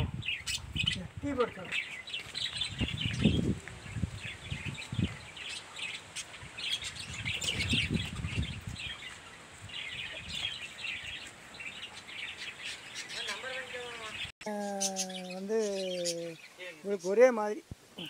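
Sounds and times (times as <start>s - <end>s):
budgerigars chirping: 0.0s - 3.4s, 4.2s - 17.3s.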